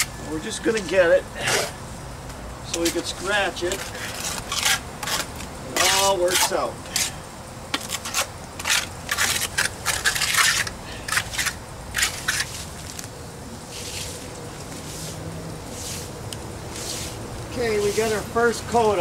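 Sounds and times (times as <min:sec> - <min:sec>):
broom brushing wet cement: 0:00.0 - 0:01.8, 0:02.7 - 0:19.0
trowel scraping and slapping cement: 0:01.4 - 0:01.8, 0:02.7 - 0:13.1, 0:13.7 - 0:19.0.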